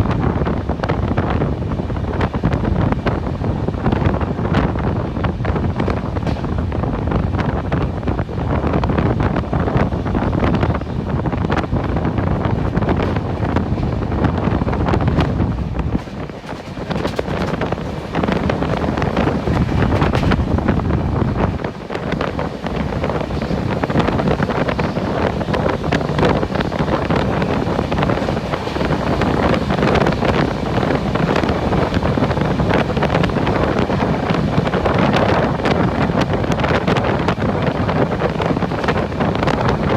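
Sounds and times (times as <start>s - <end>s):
moving train running noise: 0.0s - 39.9s
wind buffeting microphone: 0.0s - 39.9s.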